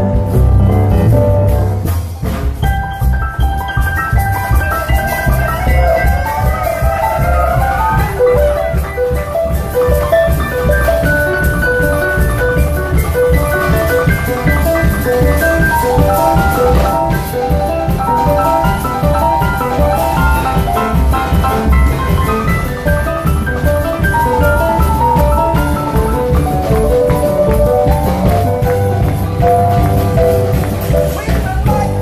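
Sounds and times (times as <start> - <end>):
drum and bass beat: 0.0 - 32.0.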